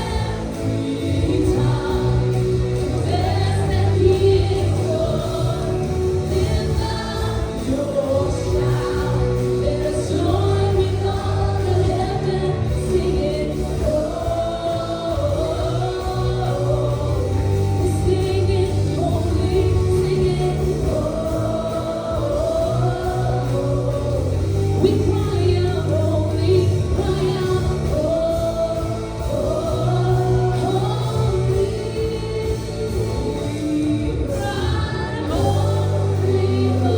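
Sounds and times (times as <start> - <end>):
singers holding long lines: 0.0 - 36.9
worship band playing: 0.0 - 36.9.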